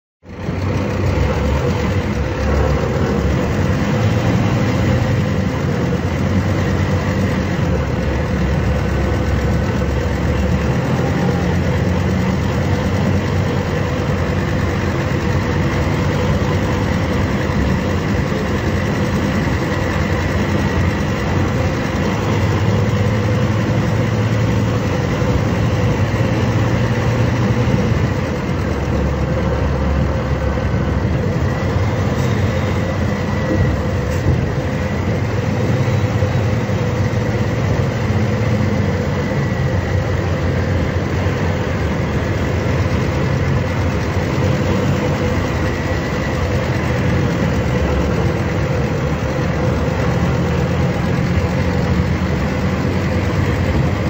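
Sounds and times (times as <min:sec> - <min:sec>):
bus diesel engine running: 0:00.2 - 0:54.0.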